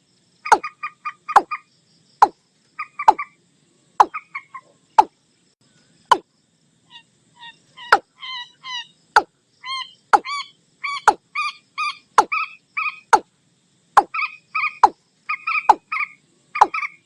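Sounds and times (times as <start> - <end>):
sharp sweeping bird calls: 0.4 - 5.2, 6.9 - 13.3, 13.9 - 17.0.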